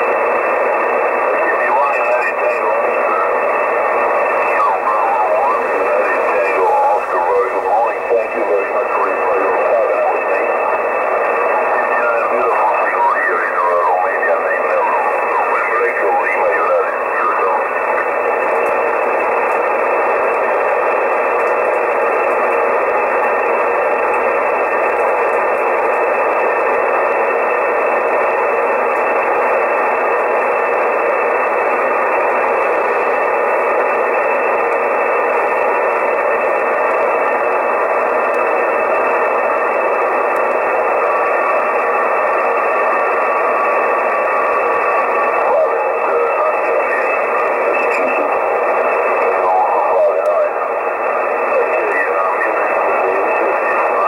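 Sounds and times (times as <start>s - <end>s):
shortwave radio hiss: 0.0s - 54.0s.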